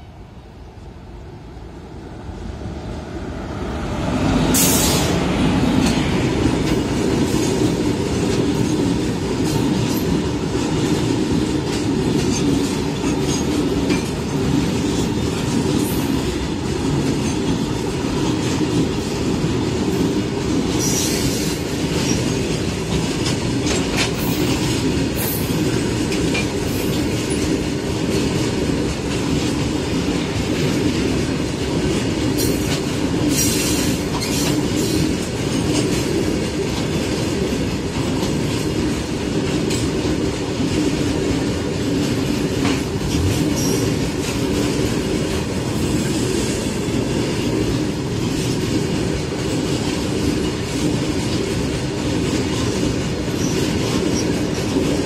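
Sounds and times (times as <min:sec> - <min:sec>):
train wheels rumbling on rail: 0:00.0 - 0:55.0
wheels clanking over rail joints: 0:03.8 - 0:55.0.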